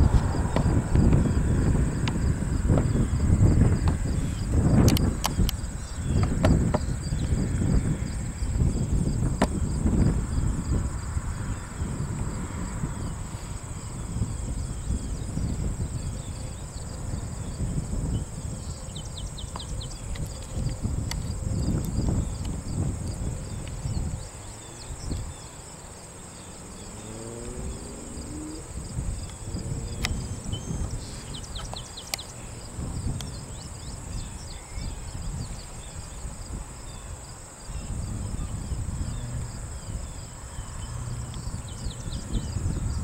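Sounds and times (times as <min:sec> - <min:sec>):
insects droning: 0:00.0 - 0:43.0
wind rumble on microphone: 0:00.0 - 0:43.0.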